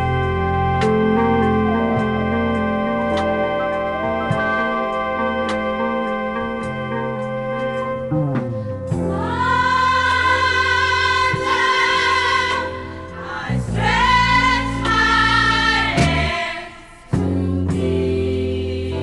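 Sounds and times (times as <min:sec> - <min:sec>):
low bass backing: 0:00.0 - 0:19.0.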